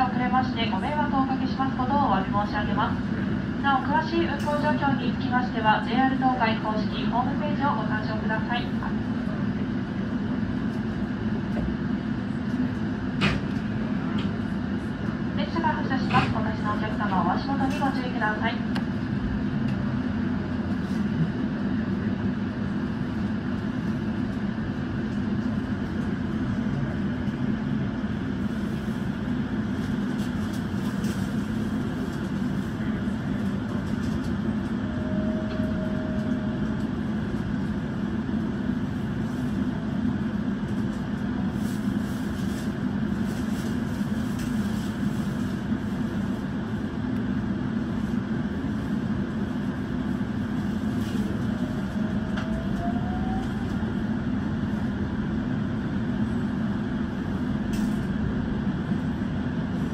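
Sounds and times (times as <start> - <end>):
low train hum: 0.0 - 59.9
train wheels rumbling on rail: 0.0 - 59.9.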